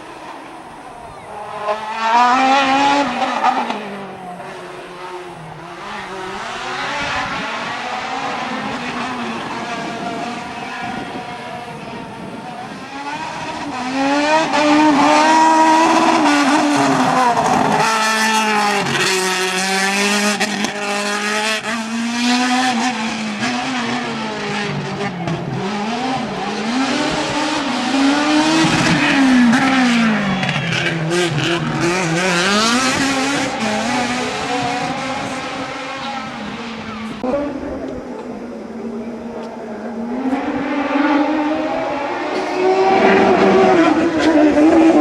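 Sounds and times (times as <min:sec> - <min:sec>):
racing car engine revving: 0:00.0 - 0:45.0.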